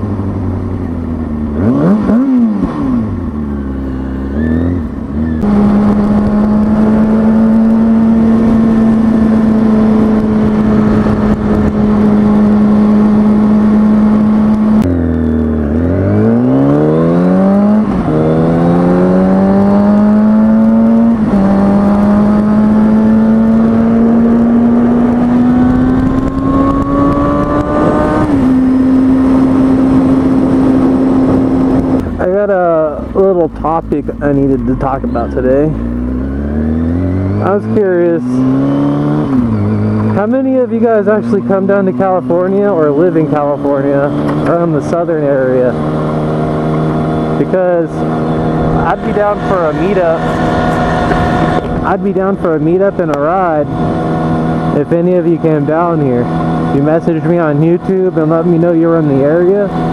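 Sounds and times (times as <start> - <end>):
motorcycle engine revving: 0.0 - 59.9
wind noise: 4.8 - 59.9.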